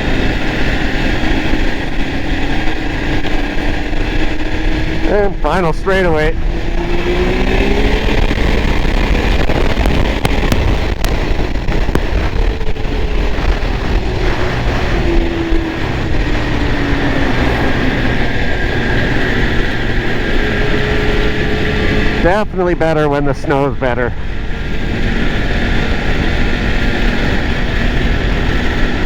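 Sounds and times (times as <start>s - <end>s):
snowmobile engine running: 0.0s - 29.0s
wind noise on microphone: 0.0s - 29.0s.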